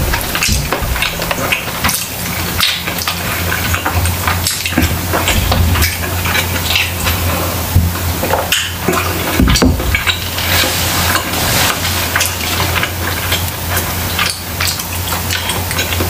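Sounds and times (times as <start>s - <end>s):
wet chewing and smacking: 0.0s - 16.0s.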